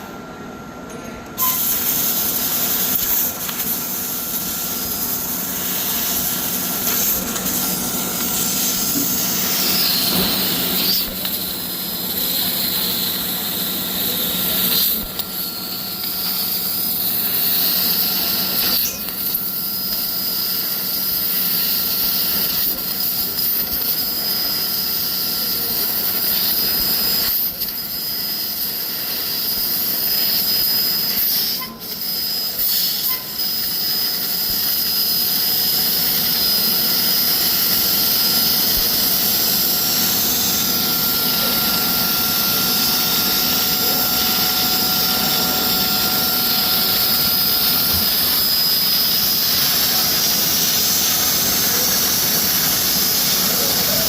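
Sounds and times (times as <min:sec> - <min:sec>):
laser cutting machine hissing: 0:00.0 - 0:54.0.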